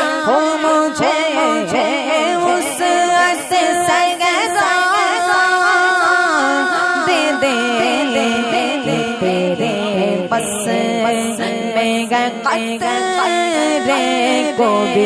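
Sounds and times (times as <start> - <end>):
person singing ornamented notes: 0.0 - 15.0.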